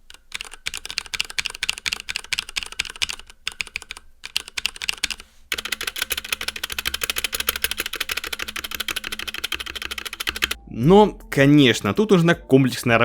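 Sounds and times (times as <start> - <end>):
fast typing on mechanical keyboard: 0.0 - 10.6.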